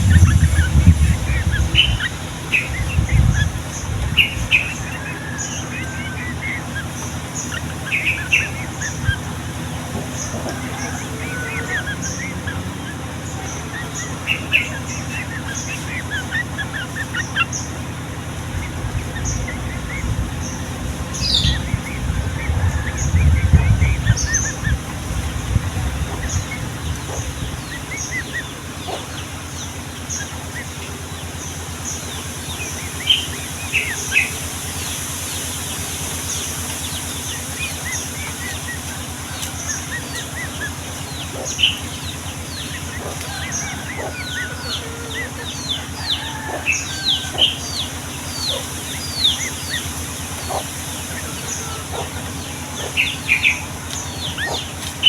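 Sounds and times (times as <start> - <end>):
birds chirping and calling: 0.0 - 55.0
low hum and hiss: 0.0 - 55.0.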